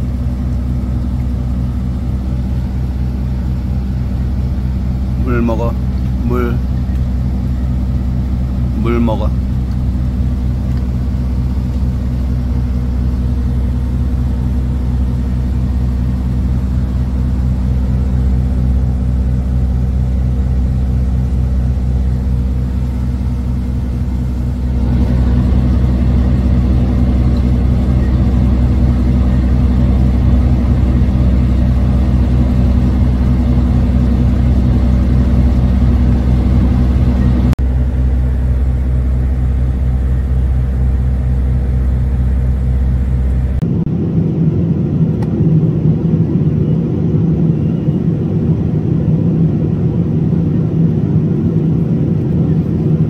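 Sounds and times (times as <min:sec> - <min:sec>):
ship's engine throbbing hum: 0:00.0 - 0:53.0.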